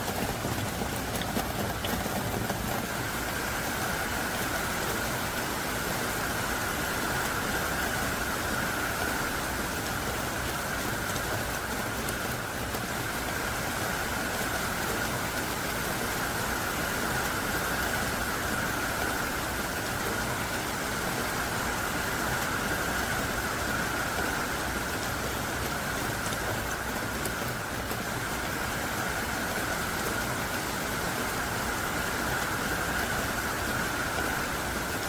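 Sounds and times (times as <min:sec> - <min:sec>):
heavy rain downpour: 0:00.0 - 0:35.0.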